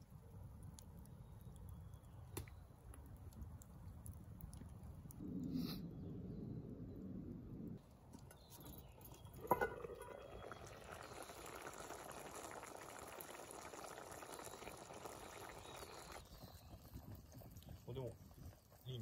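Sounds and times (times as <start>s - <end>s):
stew bubbling at a simmer: 0.0s - 6.4s, 7.8s - 19.0s.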